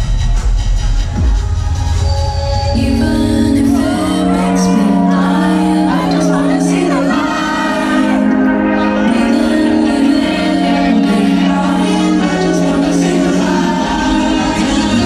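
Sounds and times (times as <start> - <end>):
electronic dance music: 0.0 - 15.0
heavy bass: 0.0 - 15.0
person singing over synth chords: 2.1 - 15.0.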